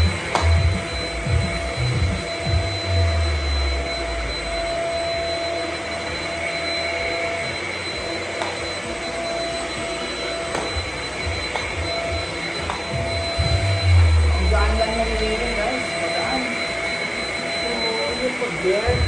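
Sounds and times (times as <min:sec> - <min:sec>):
stick vacuum running: 0:00.0 - 0:19.0.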